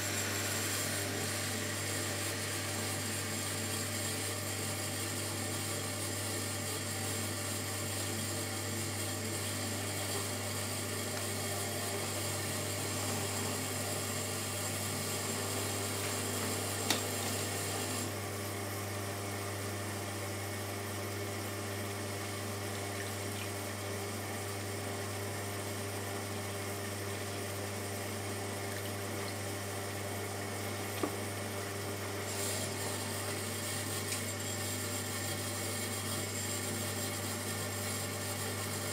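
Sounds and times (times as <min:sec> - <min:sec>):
potter's wheel humming: 0:00.0 - 0:38.9.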